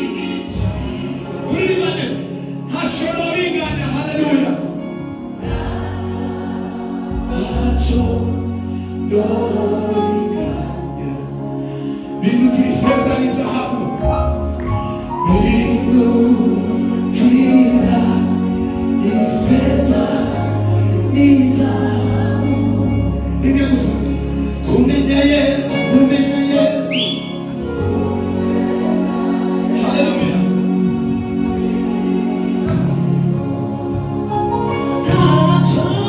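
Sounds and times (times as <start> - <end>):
choir singing: 0.0 - 2.7, 5.0 - 11.7, 15.2 - 36.0.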